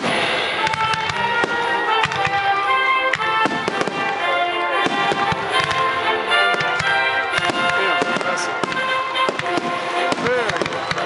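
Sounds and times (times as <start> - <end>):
fireworks bursting with bangs: 0.0 - 11.0
music playing: 0.0 - 11.0.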